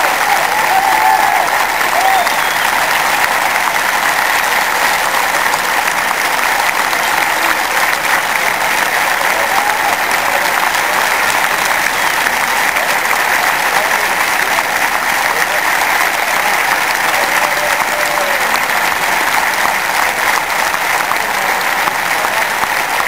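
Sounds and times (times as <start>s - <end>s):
stadium crowd applauding: 0.0s - 23.0s.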